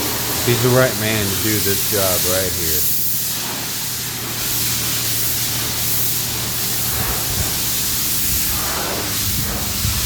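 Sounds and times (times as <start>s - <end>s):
steady hissing rush: 0.0s - 10.0s.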